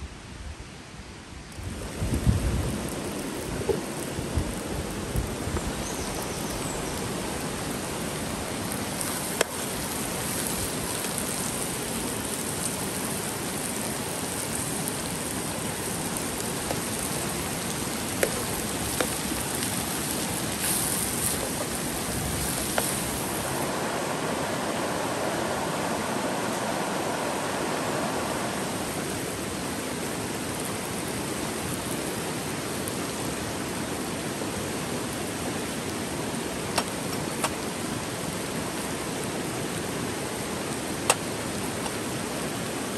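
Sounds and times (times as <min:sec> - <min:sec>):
stream rushing: 0:00.8 - 0:42.9.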